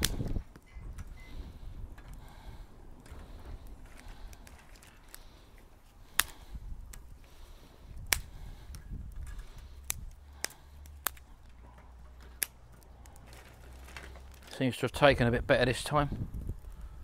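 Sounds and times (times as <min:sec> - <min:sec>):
dry twigs snapping: 0:00.0 - 0:01.1, 0:02.1 - 0:15.0.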